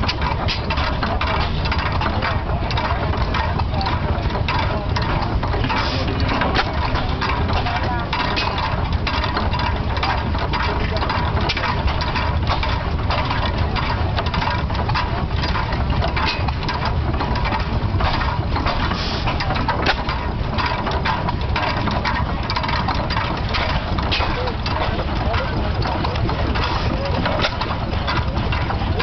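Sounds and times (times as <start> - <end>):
engine ticking and clicking: 0.0 - 29.0
stationary engine running slowly: 0.0 - 29.0.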